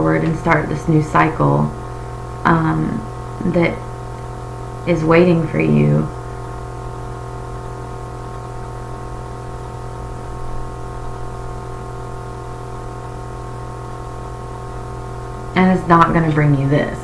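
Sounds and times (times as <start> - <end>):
buzzy electrical hum: 0.0 - 17.0.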